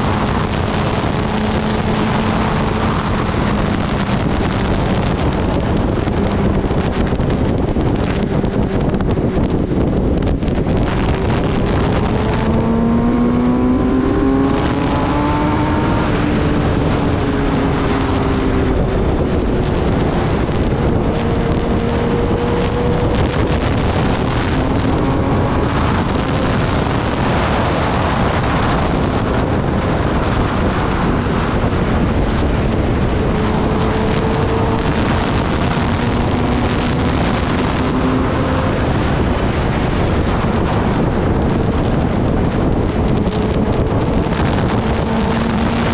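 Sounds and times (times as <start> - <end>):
motorcycle engine accelerating: 0.0 - 45.9
wind rushing over microphone: 0.0 - 45.9.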